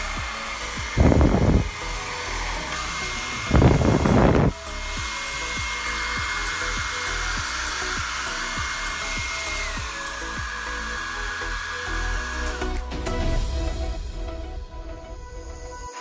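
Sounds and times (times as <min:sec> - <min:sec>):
hair dryer blowing: 0:00.0 - 0:13.8.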